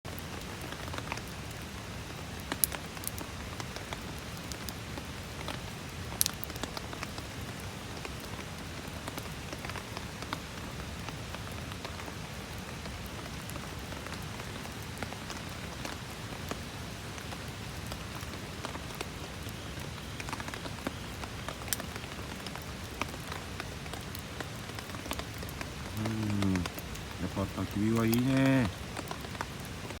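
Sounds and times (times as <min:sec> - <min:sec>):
campfire popping and crackling: 0:00.1 - 0:30.0
rain hissing: 0:00.1 - 0:30.0.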